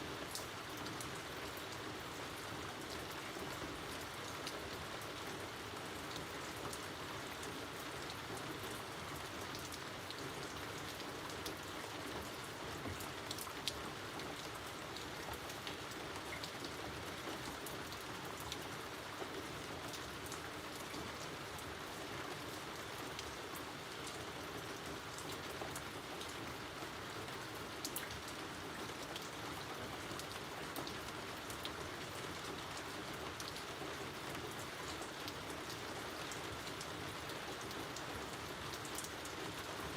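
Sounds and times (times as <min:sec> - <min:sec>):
steady rain falling: 0:00.0 - 0:39.9
raindrops pattering on surfaces: 0:00.1 - 0:39.9.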